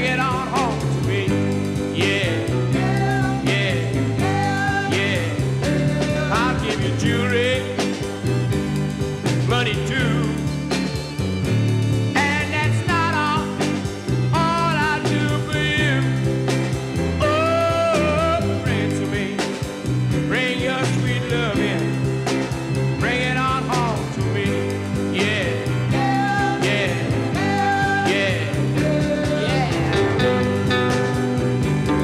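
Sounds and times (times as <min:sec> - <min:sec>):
song with gliding melody and bass: 0:00.0 - 0:32.0.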